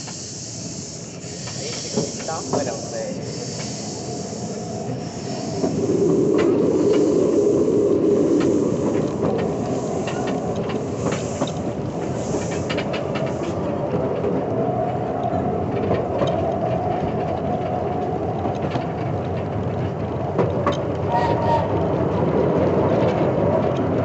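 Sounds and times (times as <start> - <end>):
train wheels rumbling on rail: 0.0 - 24.0
wheels clicking over rail joints: 0.0 - 24.0.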